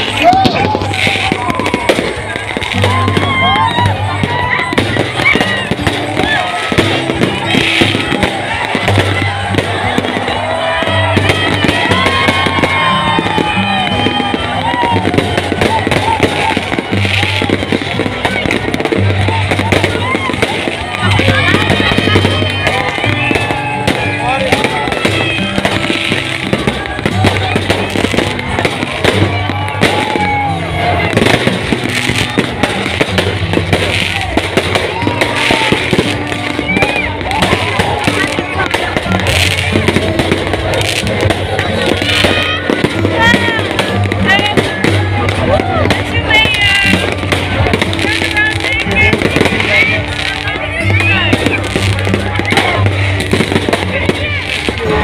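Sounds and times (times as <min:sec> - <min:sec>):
fireworks banging and crackling: 0:00.0 - 0:55.0
music playing: 0:00.0 - 0:55.0.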